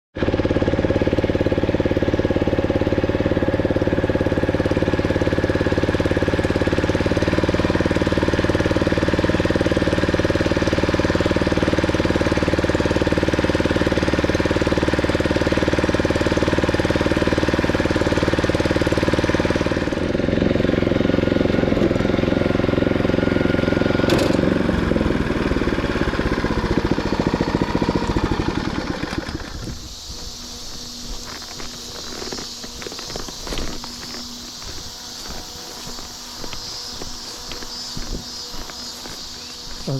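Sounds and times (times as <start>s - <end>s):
vehicle engine running: 0.2s - 39.9s.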